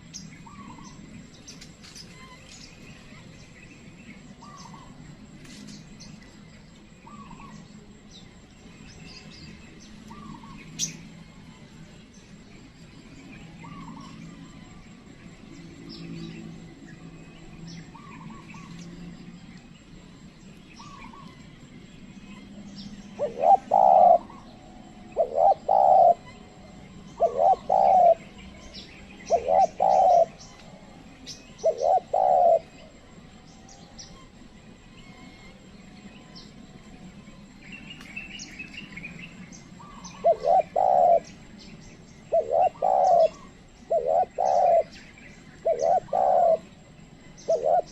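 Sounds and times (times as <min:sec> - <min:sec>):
dove cooing: 0:00.0 - 0:05.4, 0:07.0 - 0:19.5, 0:22.3 - 0:34.4, 0:38.5 - 0:47.9
small birds chirping: 0:00.0 - 0:47.9.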